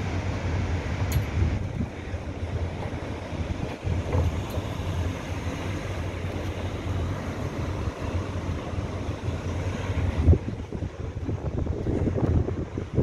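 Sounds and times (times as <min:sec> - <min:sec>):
boat engine: 0:00.0 - 0:13.0
sea rushing: 0:00.0 - 0:13.0
wind buffeting microphone: 0:00.0 - 0:13.0.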